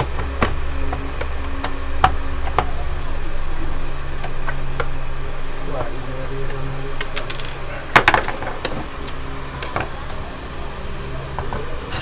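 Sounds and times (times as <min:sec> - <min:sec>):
electric fan hum: 0:00.0 - 0:12.0.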